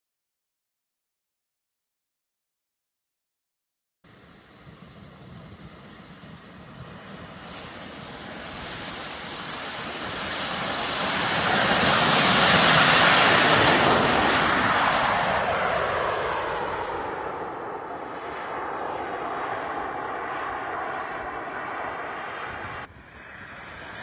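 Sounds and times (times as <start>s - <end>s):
model jet turbines rushing: 4.1s - 24.0s.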